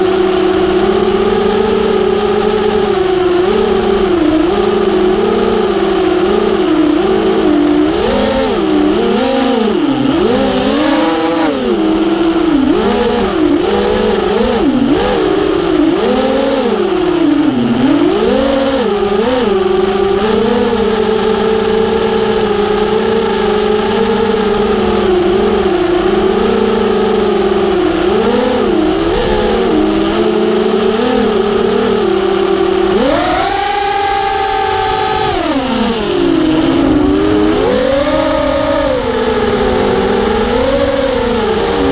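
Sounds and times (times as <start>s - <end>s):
quadcopter motors whining: 0.0s - 41.9s.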